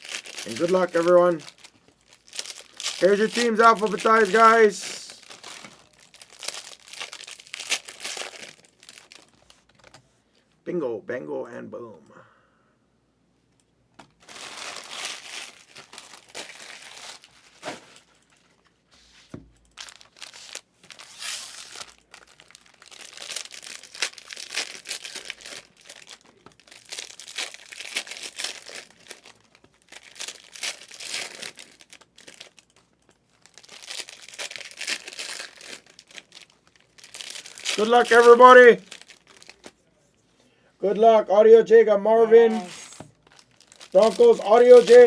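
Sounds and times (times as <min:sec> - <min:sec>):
plastic wrapping crinkling and tearing: 0:00.0 - 0:10.0, 0:14.2 - 0:18.6, 0:19.8 - 0:39.8, 0:42.4 - 0:45.0.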